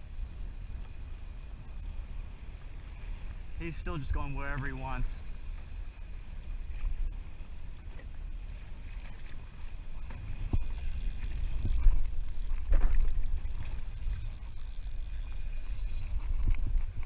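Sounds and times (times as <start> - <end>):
water sloshing against hull: 0.0 - 17.0.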